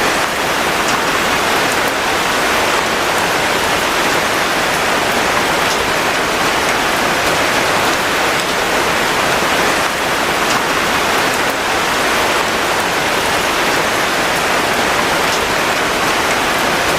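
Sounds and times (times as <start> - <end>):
heavy rain hissing: 0.0 - 16.9.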